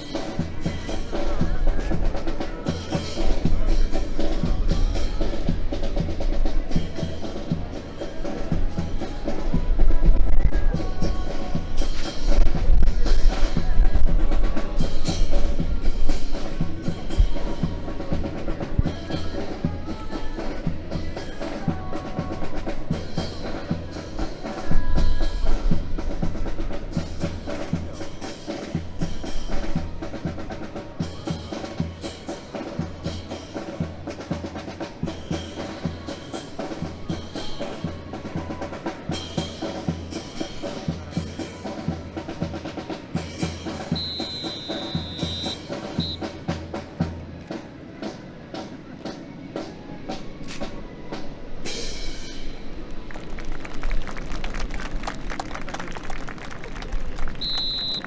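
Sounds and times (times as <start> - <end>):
snare drum rolls: 0.0 - 50.8, 52.9 - 58.0.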